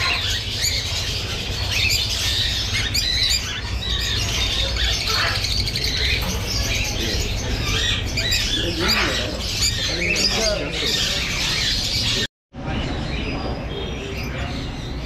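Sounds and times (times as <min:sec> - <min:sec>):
birds chirping and squawking: 0:00.0 - 0:15.0.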